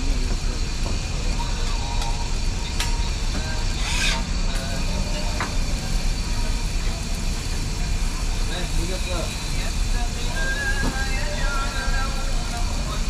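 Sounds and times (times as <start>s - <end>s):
low rumble of busy stall: 0.0s - 13.0s.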